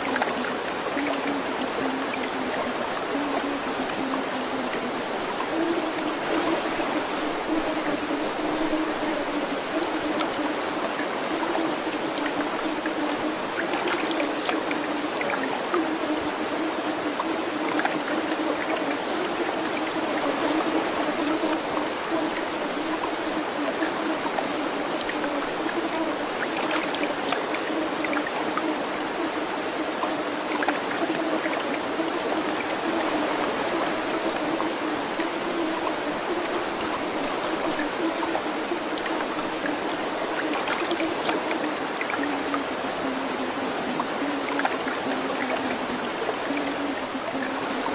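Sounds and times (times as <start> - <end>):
flowing stream: 0.0 - 47.9.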